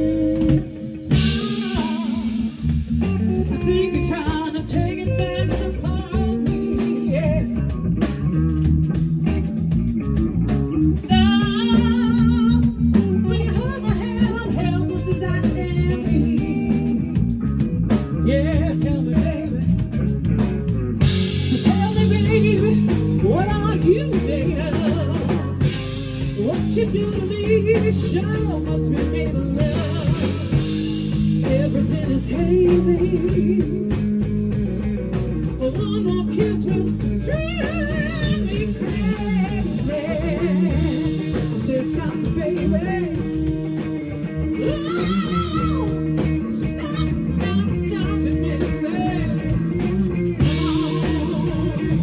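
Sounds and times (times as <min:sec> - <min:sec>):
woman singing lead vocal: 0:00.0 - 0:08.2, 0:10.9 - 0:20.1, 0:21.0 - 0:34.5, 0:35.4 - 0:52.0
soul blues band playing: 0:00.0 - 0:52.0.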